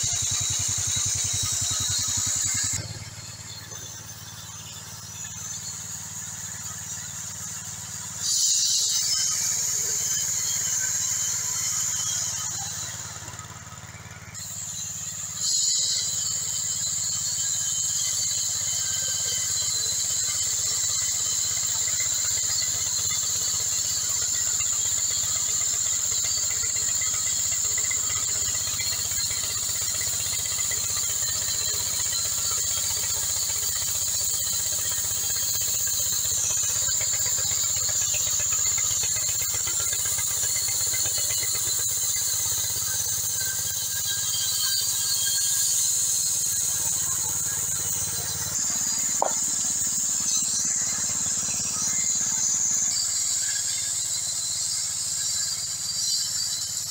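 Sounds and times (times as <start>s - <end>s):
band saw blade whine: 0.0s - 56.9s.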